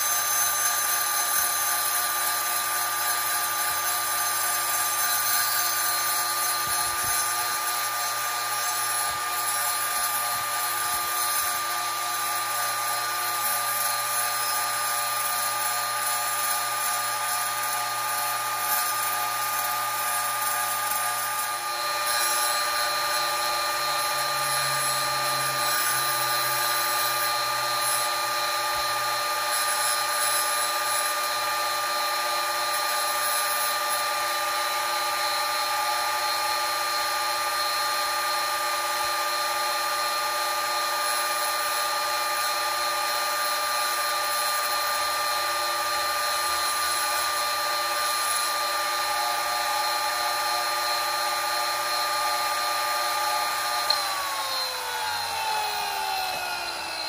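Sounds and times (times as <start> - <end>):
wet tile saw cutting glass: 0.0 - 57.0.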